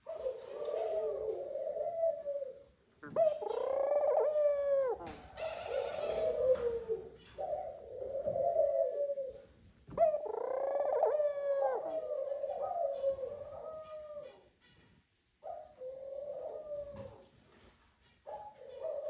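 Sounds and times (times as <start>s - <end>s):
dove cooing: 0.0s - 14.5s, 15.4s - 17.4s, 18.3s - 19.0s.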